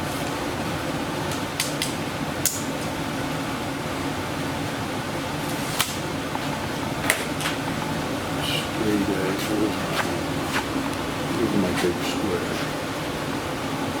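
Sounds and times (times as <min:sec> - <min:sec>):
fan whirring: 0:00.0 - 0:14.0.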